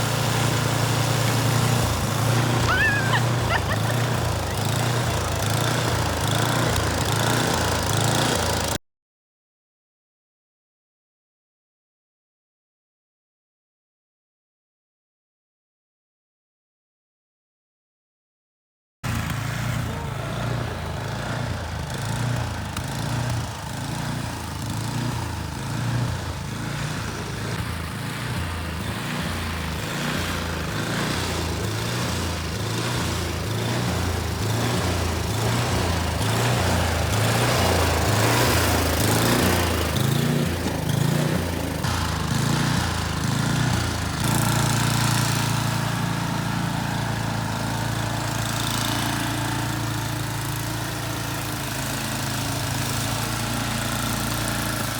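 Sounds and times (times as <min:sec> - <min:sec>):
snowblower engine running: 0:00.0 - 0:08.8, 0:19.1 - 0:54.9.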